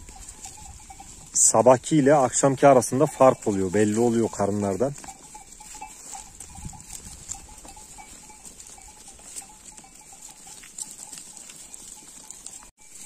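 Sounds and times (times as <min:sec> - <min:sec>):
sheep bells clinking: 0:00.0 - 0:13.0
soft rustling: 0:02.2 - 0:13.0.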